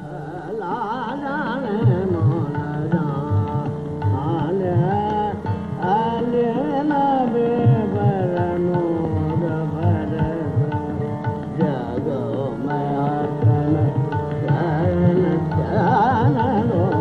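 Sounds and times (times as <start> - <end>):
man singing: 0.0 - 17.0
tabla strokes: 0.0 - 17.0
tanpura drone: 0.0 - 17.0.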